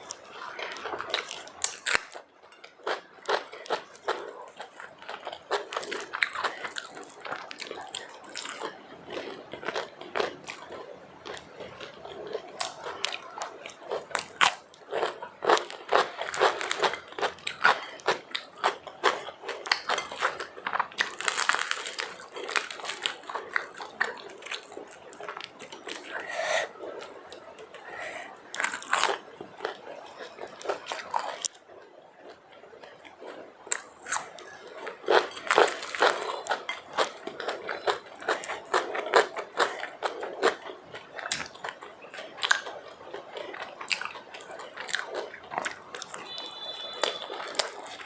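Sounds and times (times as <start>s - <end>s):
crunchy bites and chewing: 0.1s - 26.3s, 27.0s - 31.6s, 32.2s - 48.0s.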